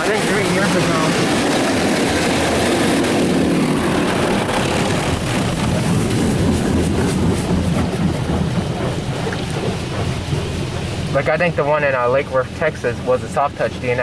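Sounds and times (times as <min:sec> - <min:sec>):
water spray rushing on car: 0:00.0 - 0:14.0.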